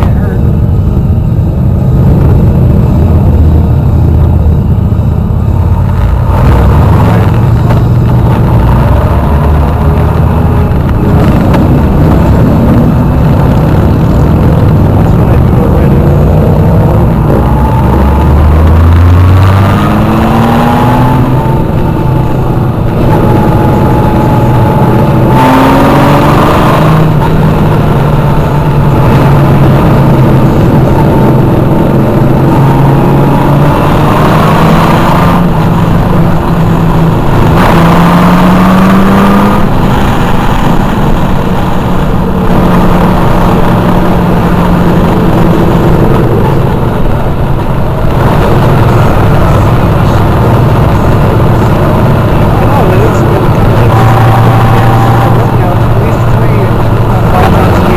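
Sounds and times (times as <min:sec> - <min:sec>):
motorcycle engines running: 0:00.0 - 0:57.9.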